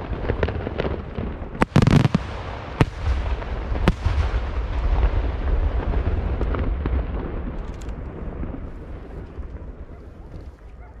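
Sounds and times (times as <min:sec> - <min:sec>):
fireworks explosions rumbling: 0:00.0 - 0:11.0.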